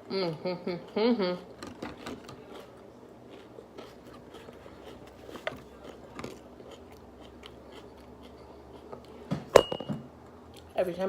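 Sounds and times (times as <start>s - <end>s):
person chewing food: 0.0s - 9.5s.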